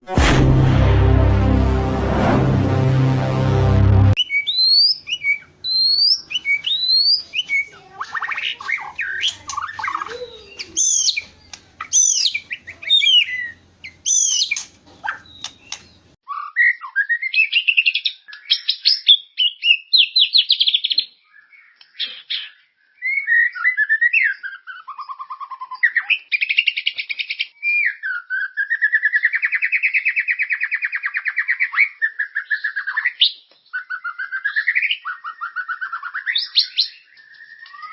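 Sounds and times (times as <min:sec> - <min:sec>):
bird singing whistles and trills: 0:04.2 - 0:21.0, 0:22.4 - 0:37.9.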